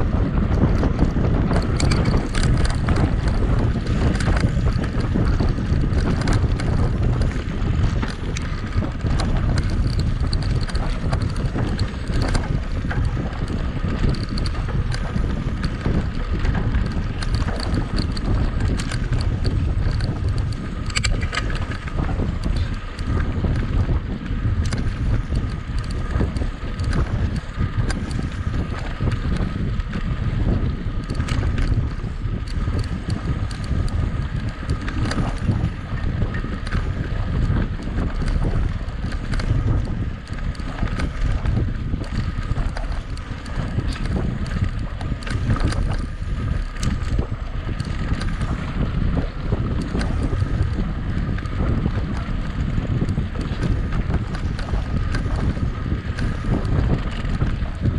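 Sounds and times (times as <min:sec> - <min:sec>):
bike clicks and rattles: 0:00.0 - 0:57.9
bike tyre noise: 0:00.0 - 0:57.9
wind buffeting microphone: 0:00.0 - 0:57.9.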